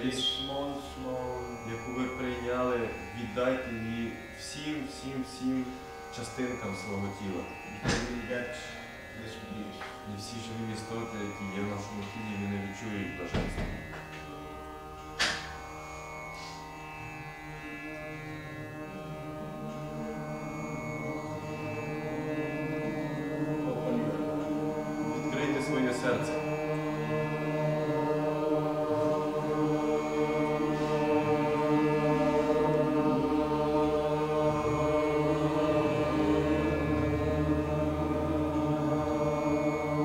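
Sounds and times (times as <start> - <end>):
voices chanting: 0.0 - 13.7, 18.8 - 40.0
musical drone: 0.0 - 40.0.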